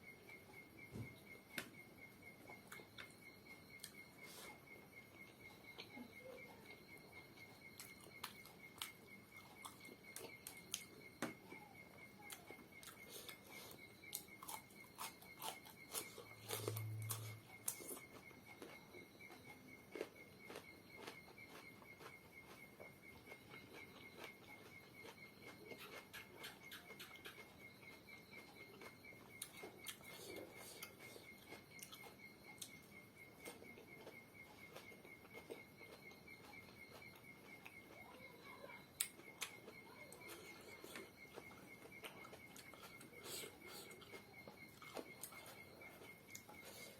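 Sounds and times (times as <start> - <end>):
insects chirping: 0.0 - 46.9
chewing food: 0.2 - 46.9.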